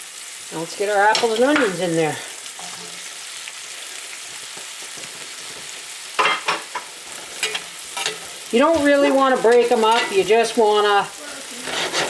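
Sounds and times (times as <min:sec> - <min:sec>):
food sizzling in butter: 0:00.0 - 0:12.0
utensil stirring noises: 0:00.4 - 0:12.0.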